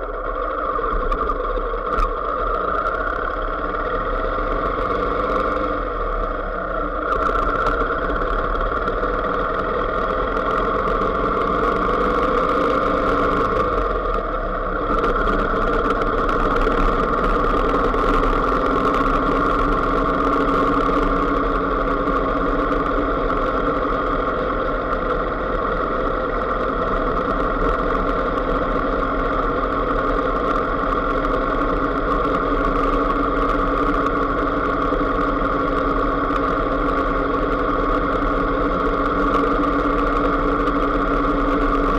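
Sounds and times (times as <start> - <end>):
small vehicle engine droning: 0.0 - 41.9.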